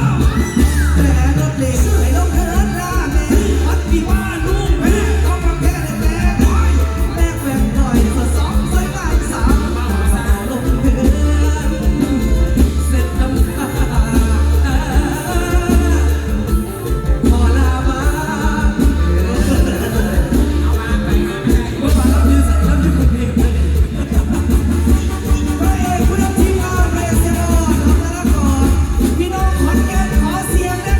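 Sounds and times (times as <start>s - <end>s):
heavy pulsing bass beat: 0.0s - 30.9s
live band music through a pa: 0.0s - 30.9s
person singing: 0.0s - 30.9s.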